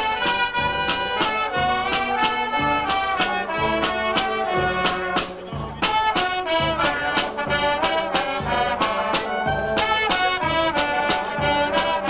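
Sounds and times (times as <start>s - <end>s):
bass drum and snare beat: 0.0s - 12.0s
trumpets and clarinets melody: 0.0s - 12.0s.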